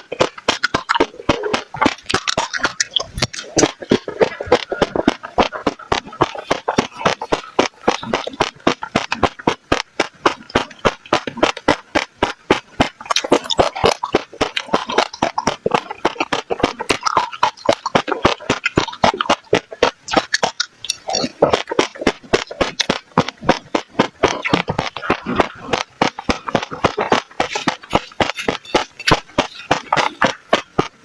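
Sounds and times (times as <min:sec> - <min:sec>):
seeds crunching as bitten: 0:00.0 - 0:30.9.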